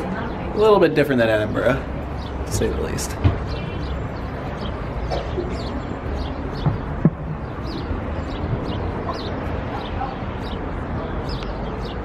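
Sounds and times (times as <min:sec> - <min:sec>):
small birds chirping: 0:01.5 - 0:12.0.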